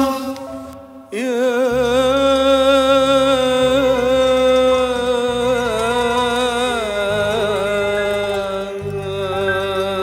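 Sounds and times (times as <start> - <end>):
man singing melismatic note: 0.0 - 10.0.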